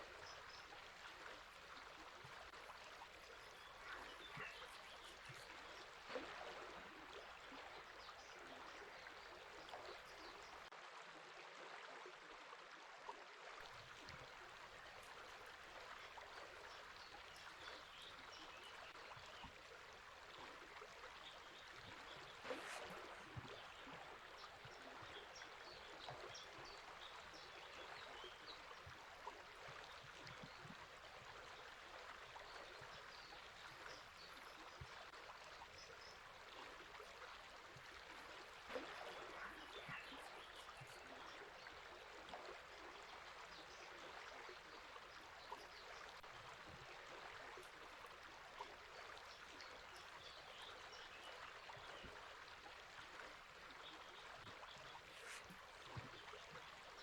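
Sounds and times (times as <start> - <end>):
faint river flowing: 0.0 - 57.0.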